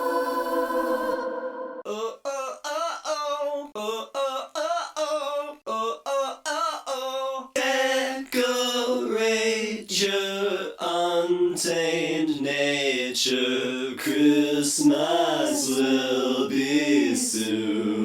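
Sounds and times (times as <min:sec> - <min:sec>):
man singing wordless syllables: 0:01.9 - 0:17.8.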